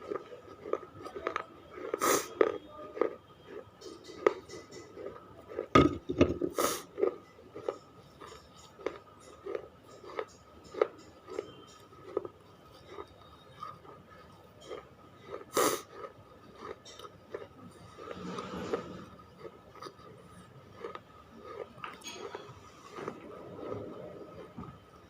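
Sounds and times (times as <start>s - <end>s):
person chewing crunchy clay: 0.0s - 25.0s.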